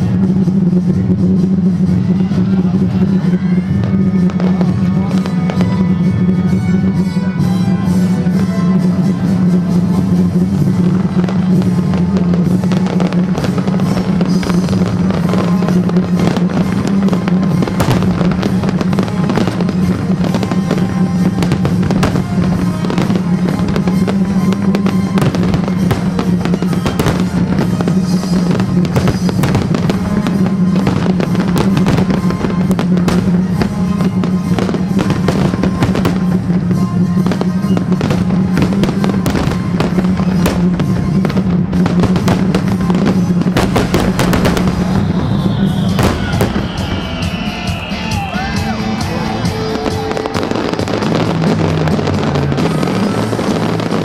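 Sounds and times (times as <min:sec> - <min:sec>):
fireworks bursting: 0:00.0 - 0:54.0
music: 0:00.0 - 0:54.0.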